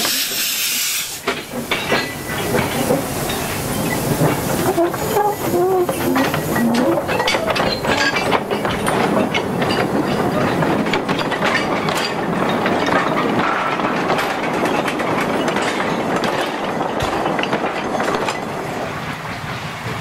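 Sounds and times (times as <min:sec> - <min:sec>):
freight wagons clattering on rails: 0:01.1 - 0:20.0.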